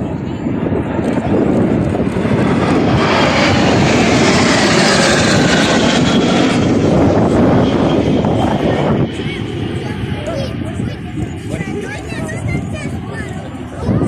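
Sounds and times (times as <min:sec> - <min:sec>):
aircraft passing low: 0:00.0 - 0:14.0.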